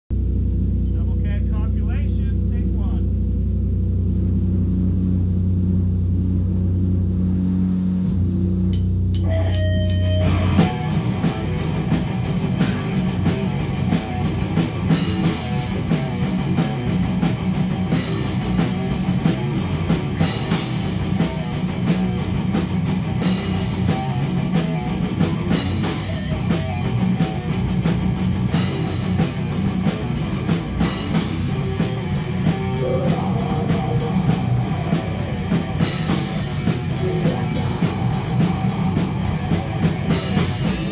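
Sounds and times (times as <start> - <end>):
low drone: 0.1 - 40.9
drum kit: 0.8 - 40.9
heavy rock guitar: 8.1 - 40.9.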